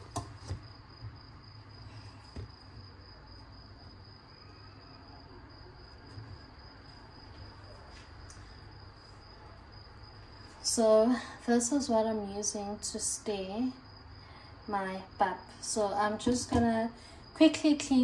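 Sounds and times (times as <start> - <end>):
faint high-pitched whine: 0.0 - 18.0.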